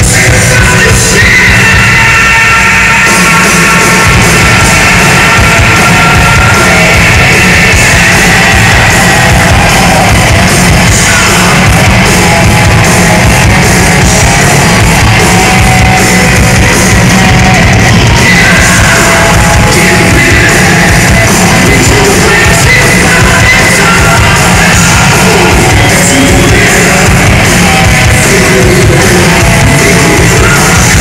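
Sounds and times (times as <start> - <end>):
distorted electric guitars: 0.0 - 31.0
drum kit: 0.0 - 31.0.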